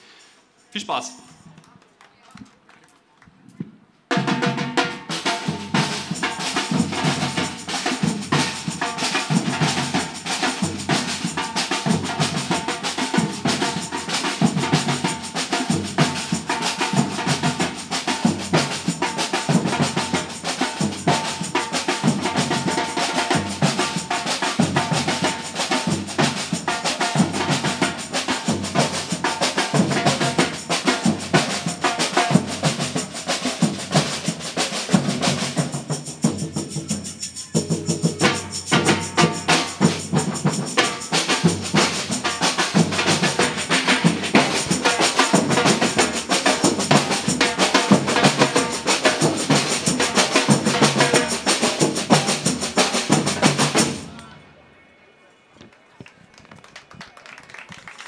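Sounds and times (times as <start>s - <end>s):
snare drums: 3.6s - 54.3s.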